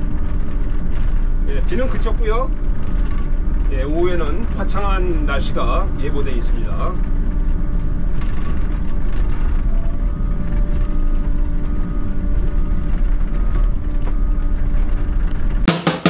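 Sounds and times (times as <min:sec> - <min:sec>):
diesel engine under load: 0:00.0 - 0:15.7
hydraulic hum: 0:00.0 - 0:15.7.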